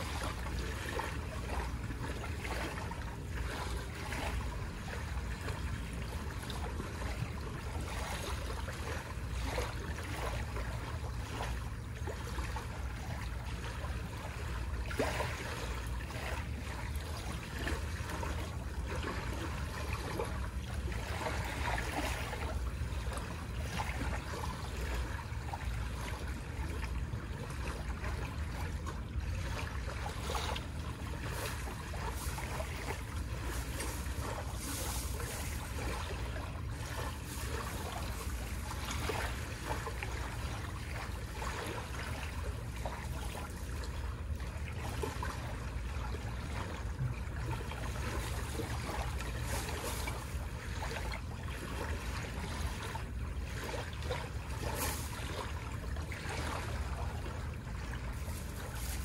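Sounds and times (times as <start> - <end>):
small waves washing on shore: 0.0 - 59.0.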